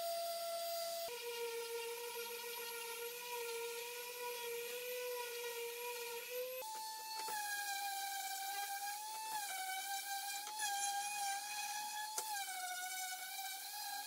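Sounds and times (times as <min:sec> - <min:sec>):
orbital sander whining: 0:00.0 - 0:14.0.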